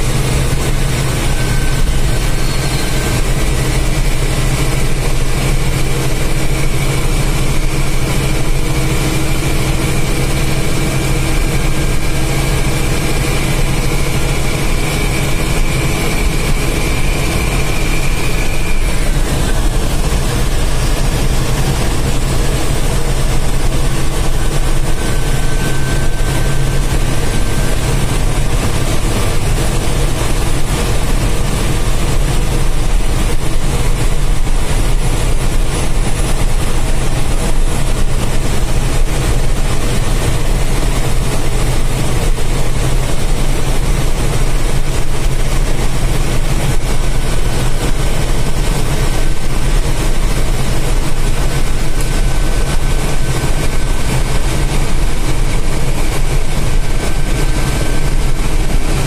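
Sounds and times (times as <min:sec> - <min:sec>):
diesel engine humming: 0:00.0 - 0:59.0
road noise: 0:00.0 - 0:59.0.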